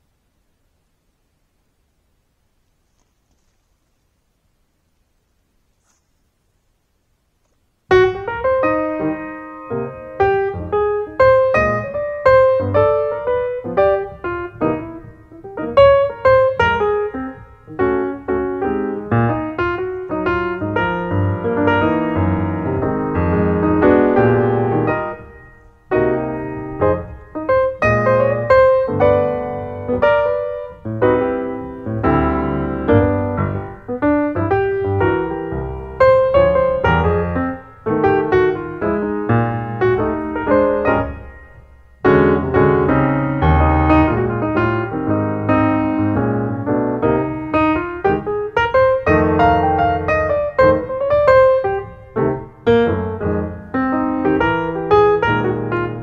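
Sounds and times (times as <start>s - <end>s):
piano music: 7.9s - 56.0s.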